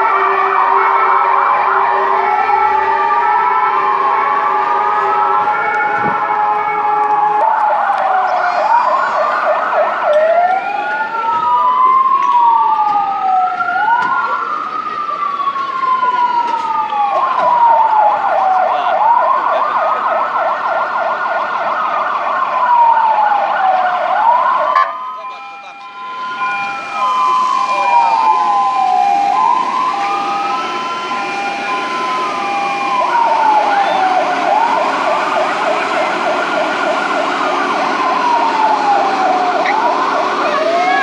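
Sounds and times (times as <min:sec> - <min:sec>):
fast pulsing siren: 0:00.0 - 0:41.0
fire engine sirens wailing: 0:00.0 - 0:41.0.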